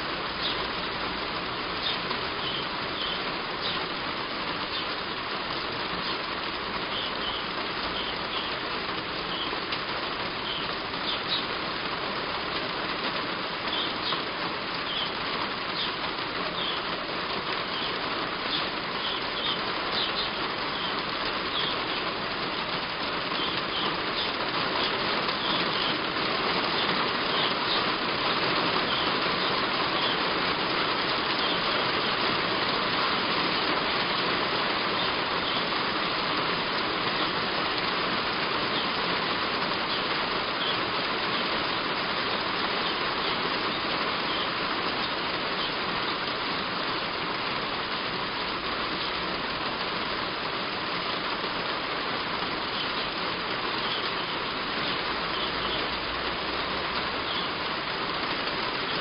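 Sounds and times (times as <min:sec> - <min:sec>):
heavy rain on a roof: 0:00.0 - 0:59.0
small birds chirping faintly: 0:00.0 - 0:59.0.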